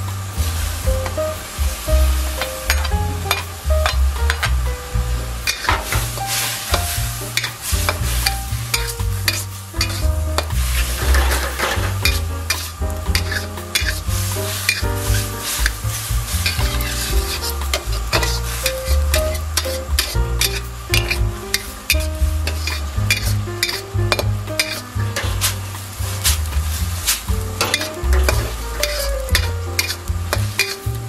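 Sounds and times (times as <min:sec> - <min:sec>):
background music with bass: 0:00.0 - 0:31.0
noodles sizzling: 0:00.0 - 0:31.0
metal spatula scraping wok: 0:05.4 - 0:31.0.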